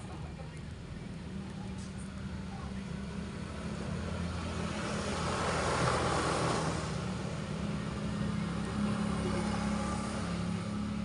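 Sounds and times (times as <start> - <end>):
low traffic hum: 0.0 - 11.0
vehicle passing: 0.0 - 11.0.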